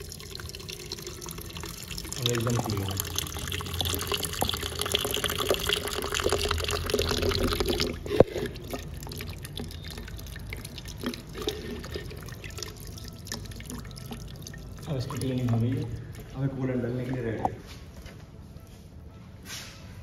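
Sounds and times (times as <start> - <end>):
water pouring into plastic jug: 0.0 - 17.6
water trickling and dripping: 0.0 - 17.7.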